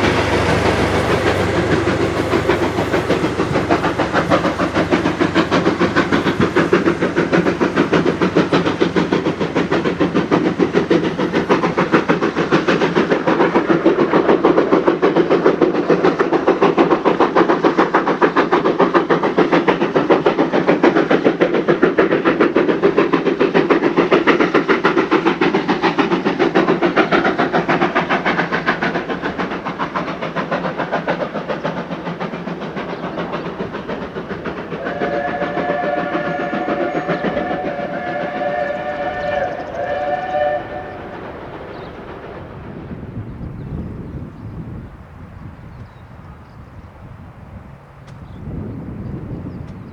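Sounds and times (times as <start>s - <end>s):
steam train running past: 0.0s - 49.9s.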